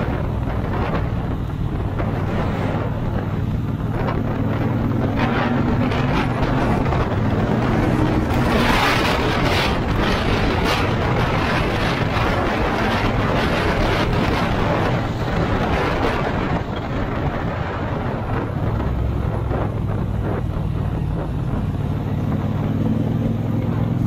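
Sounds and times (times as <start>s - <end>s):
motorcycle engine running: 0.0s - 24.0s
wind on microphone: 0.0s - 24.0s.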